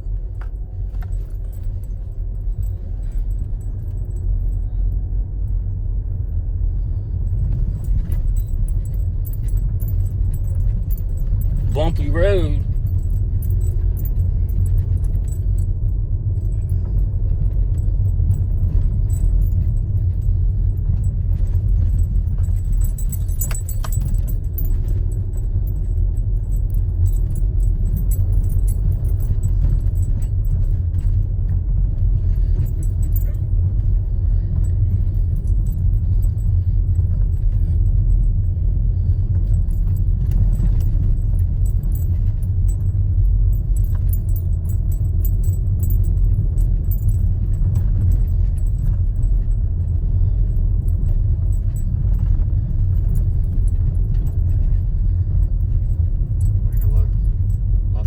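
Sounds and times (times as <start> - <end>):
car road rumble: 0.0 - 58.0
light jingling rattles: 0.1 - 5.0, 7.1 - 58.0.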